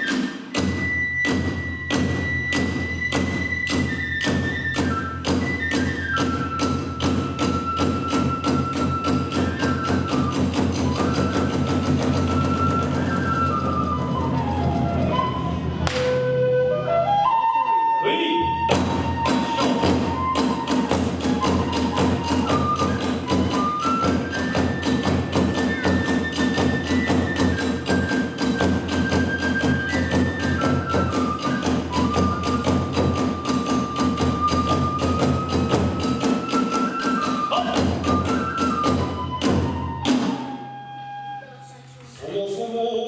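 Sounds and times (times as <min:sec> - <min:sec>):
fast drum beats: 0:00.0 - 0:15.0, 0:18.7 - 0:40.4
bamboo flute melody: 0:00.0 - 0:42.4.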